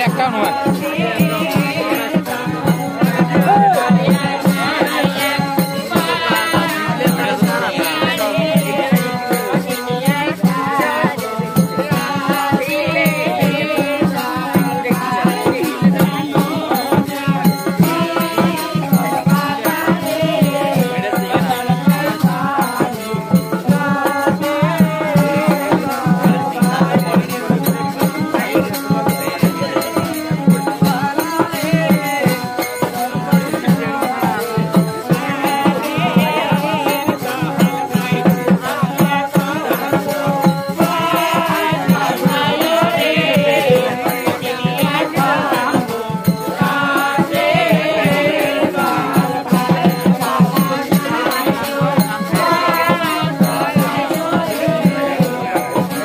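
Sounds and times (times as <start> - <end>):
fast rattling percussion: 0.0 - 56.0.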